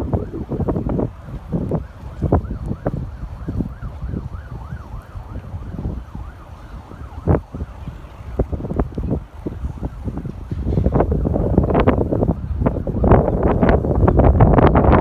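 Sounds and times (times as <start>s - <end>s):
faint emergency siren: 0.0s - 15.0s
wind buffeting microphone: 0.0s - 15.0s.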